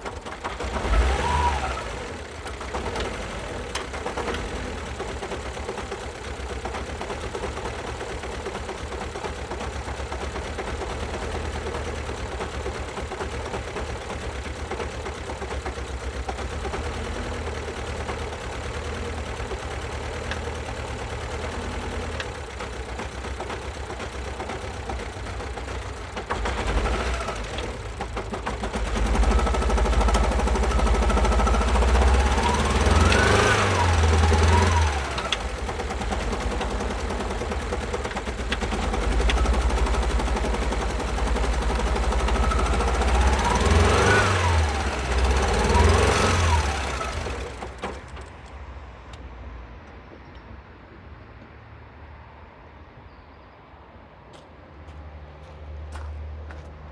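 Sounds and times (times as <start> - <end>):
car engine running rough: 0.0 - 49.2.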